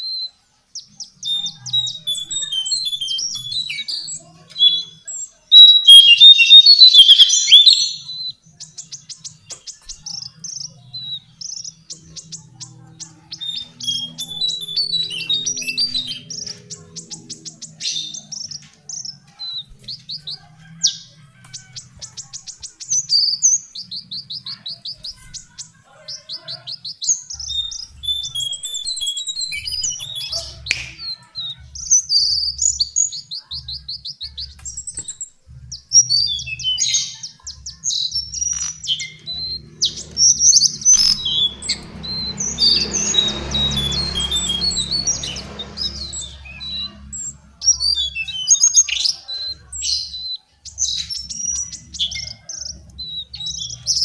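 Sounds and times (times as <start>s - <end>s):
bird trilling and chirping: 0.0s - 54.0s.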